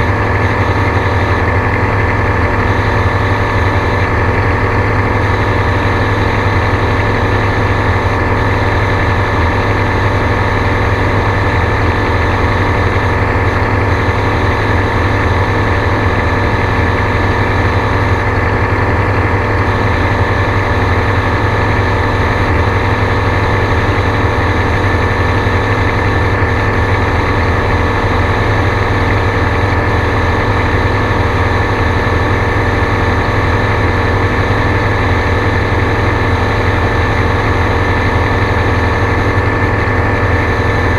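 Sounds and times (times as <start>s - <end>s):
gyrocopter engine and propeller drone: 0.0s - 40.9s.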